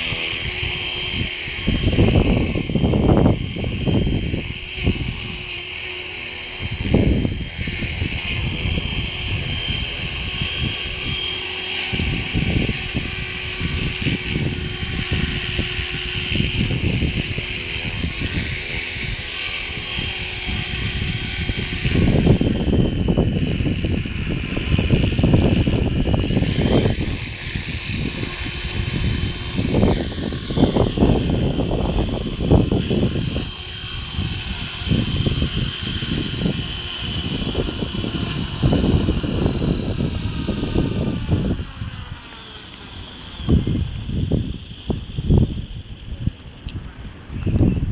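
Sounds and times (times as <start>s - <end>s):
helicopter motor and rotor whining: 0.0s - 47.9s
wind buffeting microphone: 0.0s - 47.9s.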